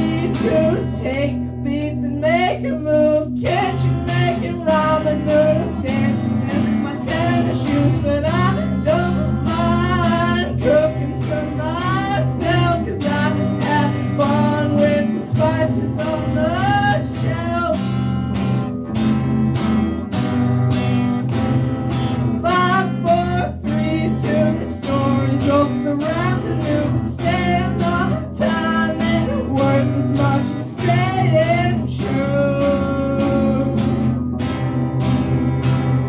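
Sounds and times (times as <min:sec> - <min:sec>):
man singing: 0:00.0 - 0:18.0, 0:22.4 - 0:34.3
strummed guitar: 0:00.0 - 0:36.0.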